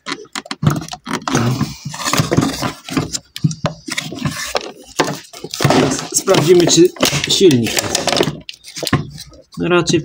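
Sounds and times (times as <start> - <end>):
scraping: 0.0 - 9.7.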